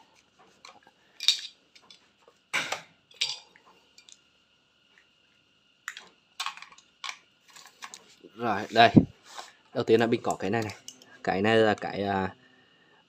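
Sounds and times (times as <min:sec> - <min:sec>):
faint steady high whine: 0:00.0 - 0:13.0.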